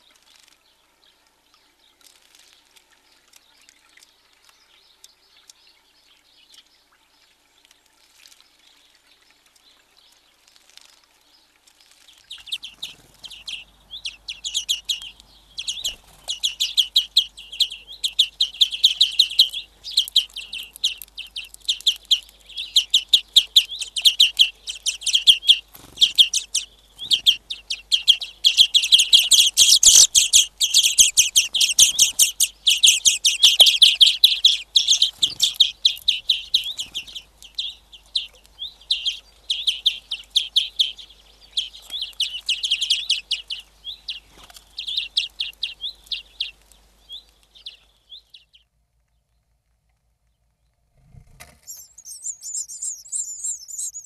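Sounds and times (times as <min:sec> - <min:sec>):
songbirds twittering: 0:00.0 - 0:49.6, 0:50.2 - 0:54.0.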